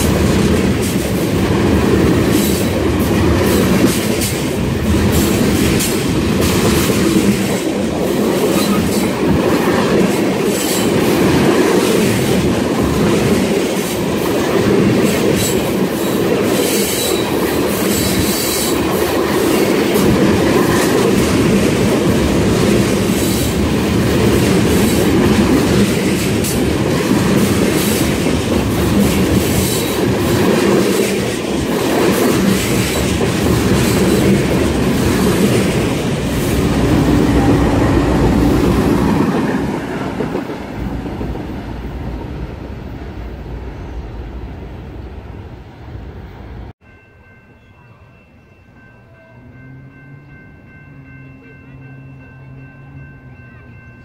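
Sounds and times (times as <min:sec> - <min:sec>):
train wheels rumbling on rails: 0:00.0 - 0:46.8.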